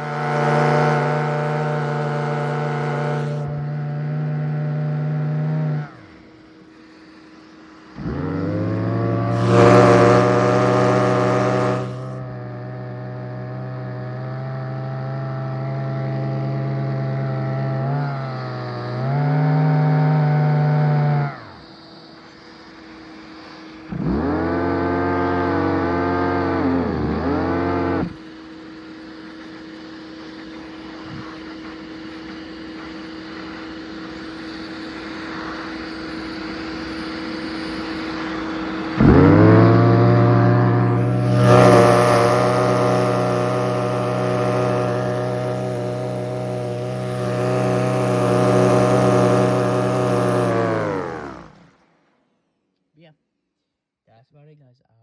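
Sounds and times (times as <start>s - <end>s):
turbine humming: 0.0s - 51.7s
faint steady whine: 0.0s - 52.0s.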